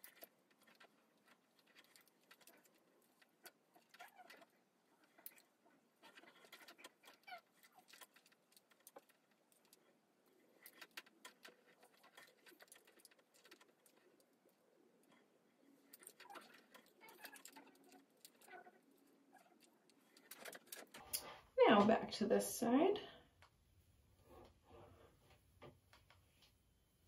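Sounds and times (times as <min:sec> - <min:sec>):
curling iron clicks and rustles: 0:00.0 - 0:22.0.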